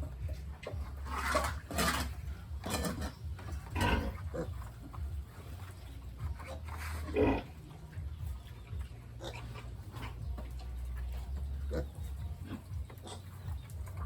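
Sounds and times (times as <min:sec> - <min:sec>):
pigs grunting: 0:00.0 - 0:14.0
steady low hum: 0:00.0 - 0:14.0.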